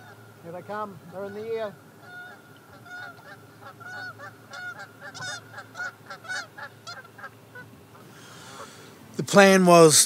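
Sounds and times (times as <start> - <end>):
waterfowl honking in flight: 0.0 - 8.9.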